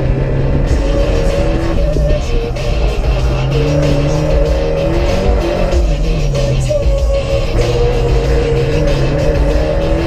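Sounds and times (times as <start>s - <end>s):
car engine driven hard: 0.0s - 10.0s
loud music on car stereo: 0.0s - 10.0s.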